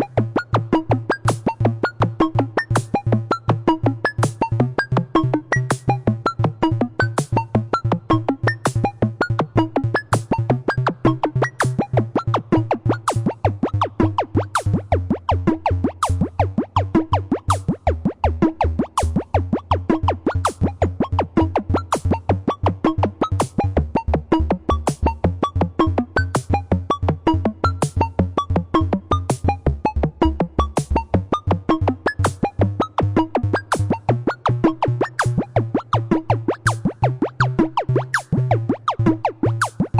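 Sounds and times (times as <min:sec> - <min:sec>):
upbeat electronic music: 0:00.0 - 0:39.9.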